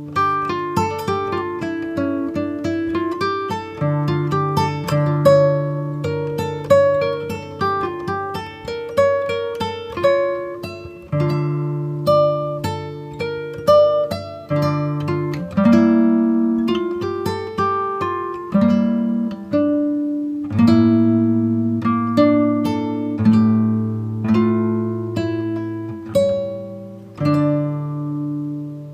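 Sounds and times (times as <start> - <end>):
plucked acoustic guitar melody: 0.0 - 28.9.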